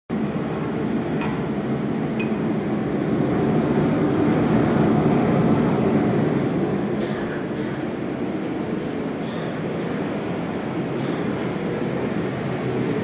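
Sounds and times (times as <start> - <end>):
low roar of workshop equipment: 0.1 - 13.0.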